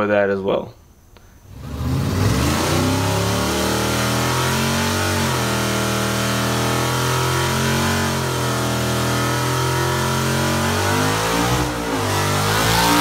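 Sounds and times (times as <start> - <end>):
car engine revving high: 1.5 - 13.0.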